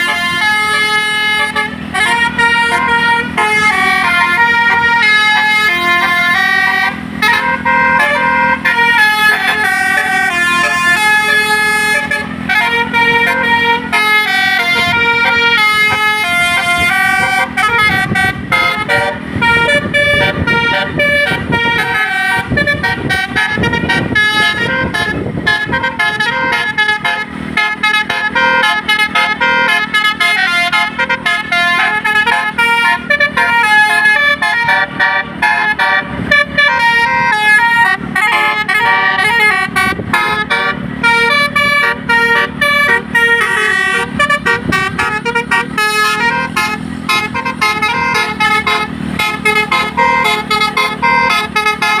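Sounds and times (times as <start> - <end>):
musical air horn melody: 0.0 - 52.0.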